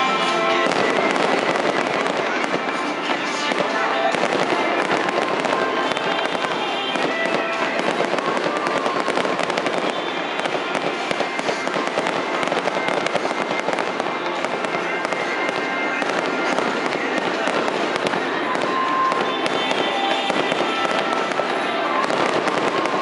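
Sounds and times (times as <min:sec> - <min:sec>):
fireworks popping and crackling: 0:00.0 - 0:23.0.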